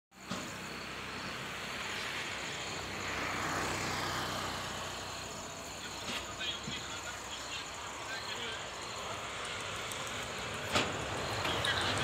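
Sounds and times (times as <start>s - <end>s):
vehicle engine noise: 0.1s - 12.0s.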